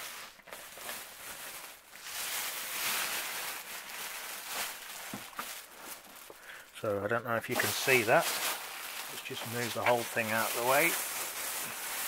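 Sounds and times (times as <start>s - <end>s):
plastic bag rustling: 0.0s - 6.7s, 7.4s - 12.0s.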